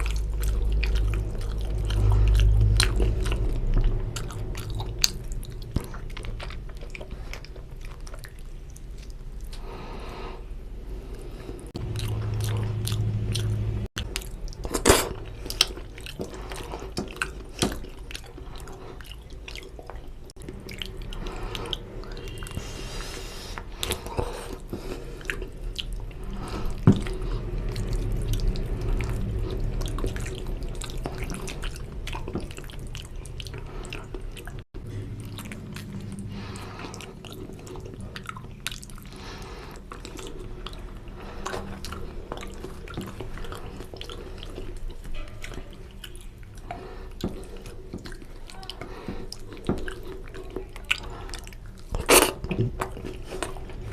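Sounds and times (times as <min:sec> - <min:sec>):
wet chewing and lip-smacking: 0:00.0 - 0:09.7, 0:11.1 - 0:53.9.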